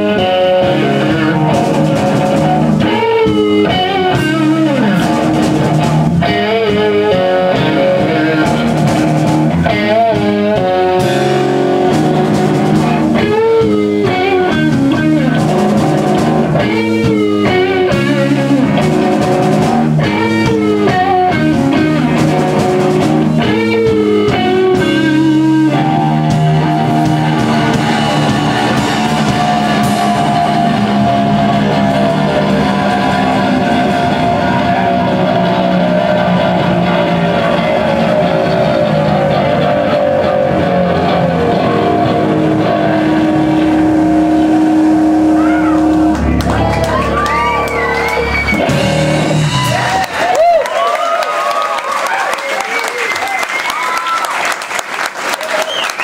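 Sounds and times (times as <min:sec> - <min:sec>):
electric guitar solo: 0:00.0 - 0:54.3.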